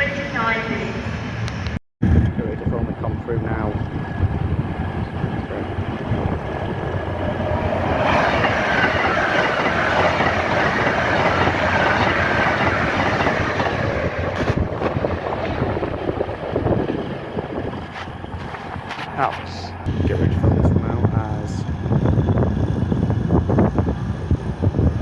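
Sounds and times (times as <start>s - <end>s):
train wheels on rails: 2.6s - 25.0s.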